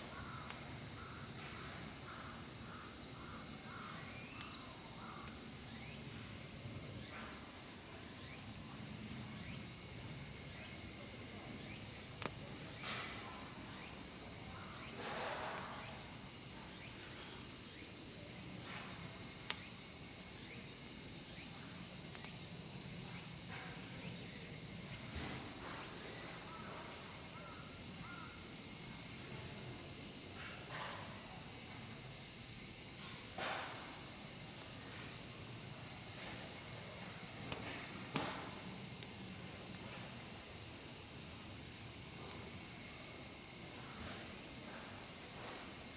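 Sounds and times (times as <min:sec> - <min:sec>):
insects chirring: 0:00.0 - 0:45.9.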